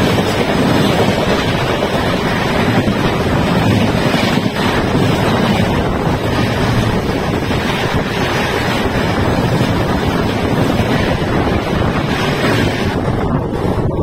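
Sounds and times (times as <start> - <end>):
train rushing past: 0.0 - 14.0
wind buffeting microphone: 0.0 - 14.0.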